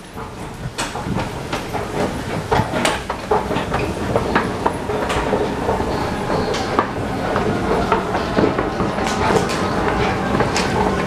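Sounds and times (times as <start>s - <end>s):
escalator clacks and knocks: 0.0s - 11.0s
escalator low rumble: 0.0s - 11.0s.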